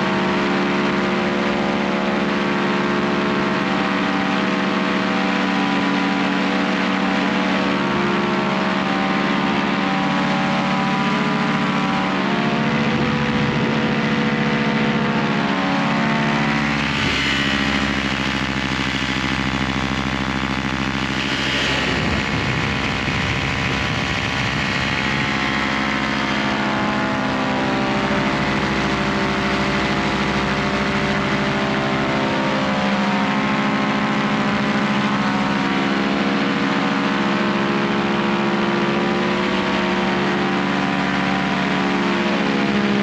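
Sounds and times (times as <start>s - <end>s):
paramotor engine droning: 0.0s - 43.0s.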